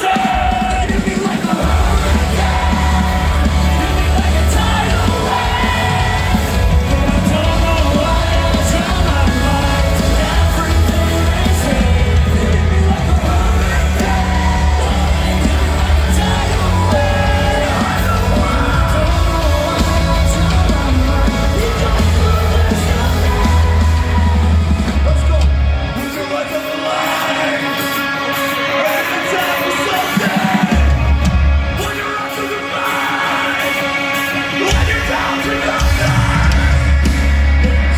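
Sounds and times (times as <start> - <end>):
live rock band: 0.0 - 37.9
singing vocals: 0.0 - 37.9.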